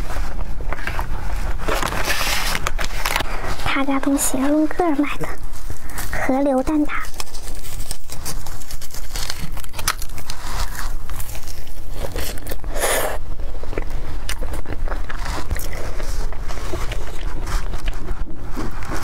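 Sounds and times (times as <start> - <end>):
pastry crust crackling while chewing: 0.7 - 19.0.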